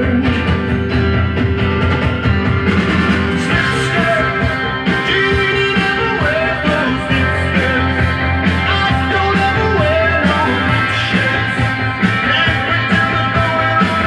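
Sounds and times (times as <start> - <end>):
guitar rock music from record: 0.0 - 14.0.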